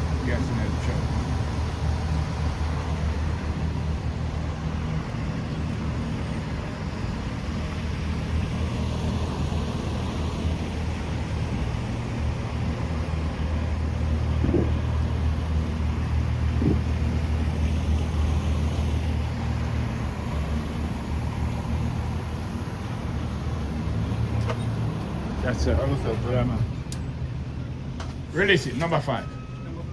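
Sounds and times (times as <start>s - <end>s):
road noise: 0.0s - 29.9s
vehicle engine running: 0.0s - 29.9s.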